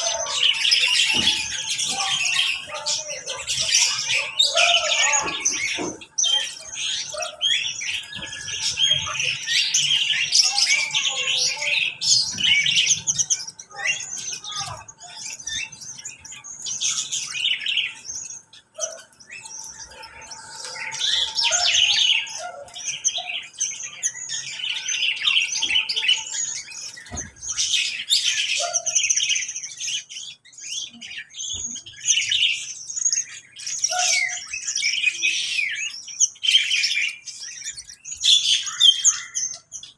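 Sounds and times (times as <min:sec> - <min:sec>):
caged birds chirping and chattering: 0:00.0 - 0:39.9.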